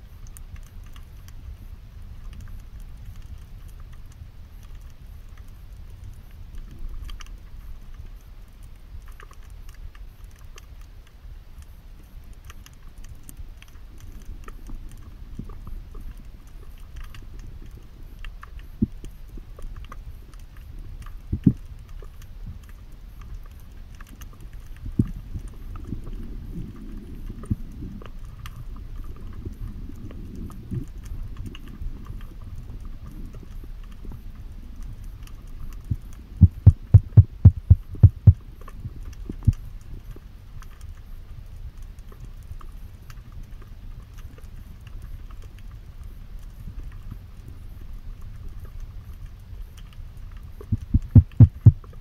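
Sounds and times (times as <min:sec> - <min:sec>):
faint crackle of clicks: 0:00.0 - 0:52.0.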